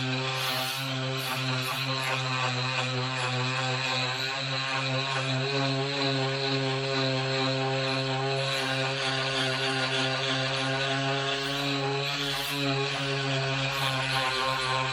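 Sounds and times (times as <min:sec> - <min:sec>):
oscillating multi-tool humming: 0:00.0 - 0:14.9.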